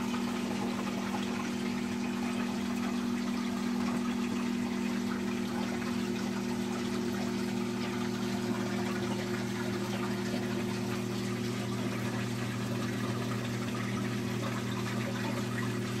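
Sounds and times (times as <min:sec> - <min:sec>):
water pump humming: 0:00.0 - 0:16.0.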